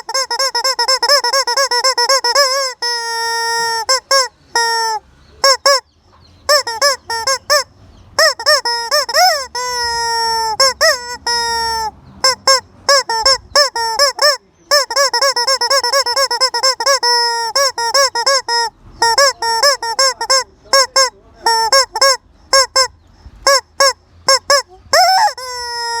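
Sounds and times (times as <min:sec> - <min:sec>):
chicken squawking: 0:00.0 - 0:26.0.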